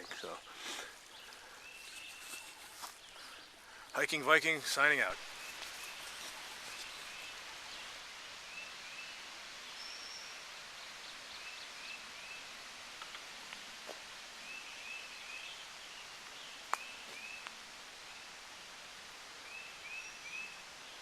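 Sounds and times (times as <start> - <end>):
small birds chirping: 0.0 - 13.8, 14.4 - 18.3
steady hiss: 0.0 - 21.0.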